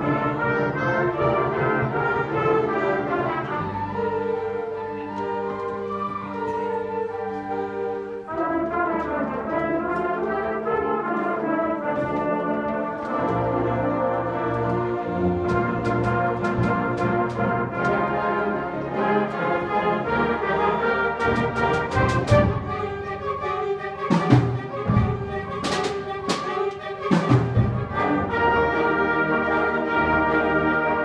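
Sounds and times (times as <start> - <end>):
symphonic band playing: 0.0 - 31.0.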